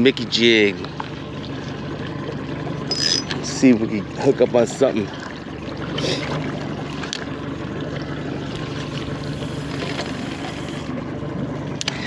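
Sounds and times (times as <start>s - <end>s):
outboard motor idling: 0.0s - 12.0s
wind and water noise: 0.0s - 12.0s.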